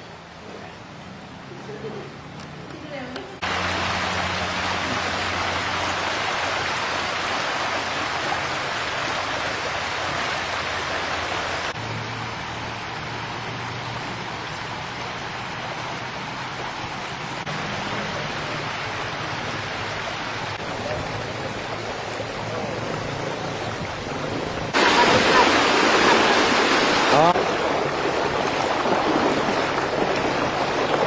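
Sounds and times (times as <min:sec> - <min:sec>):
flood water rushing: 0:00.0 - 0:31.0.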